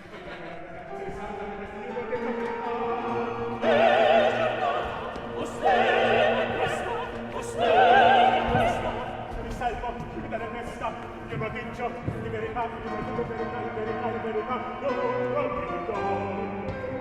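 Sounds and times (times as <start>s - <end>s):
operatic singing: 0.0s - 17.0s.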